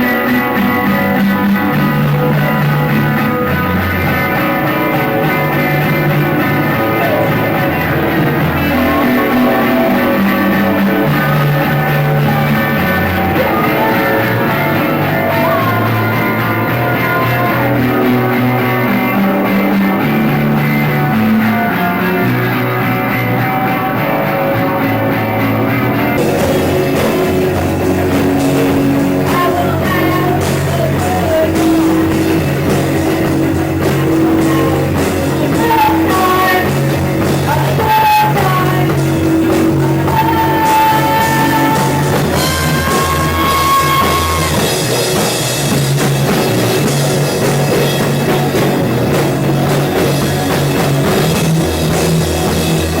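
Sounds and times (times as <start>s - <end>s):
guitar-led rock music: 0.0s - 53.0s
person singing: 0.0s - 53.0s.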